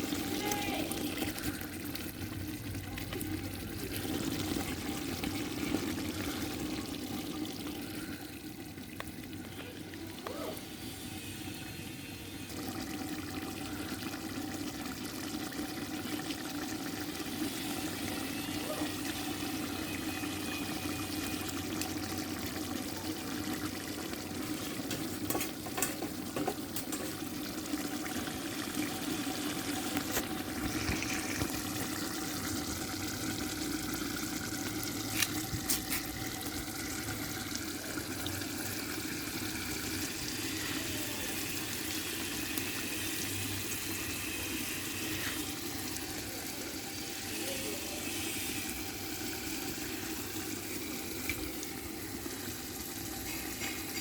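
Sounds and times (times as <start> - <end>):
curry sizzling and bubbling: 0.0 - 54.0.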